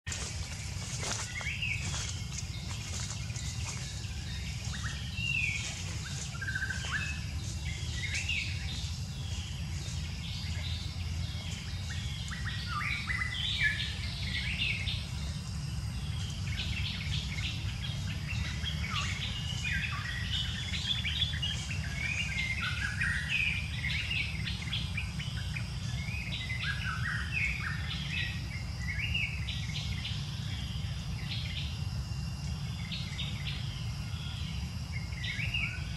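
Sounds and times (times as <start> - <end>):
birds chirping: 0.1 - 35.9
high insect drone: 0.1 - 35.9.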